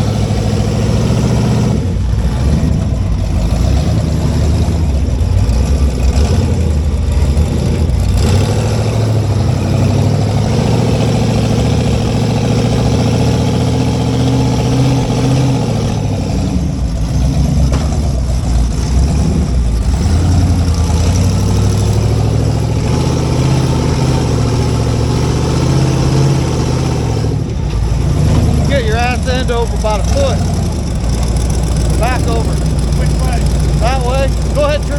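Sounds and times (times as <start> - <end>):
engine running at low revs: 0.0 - 34.9.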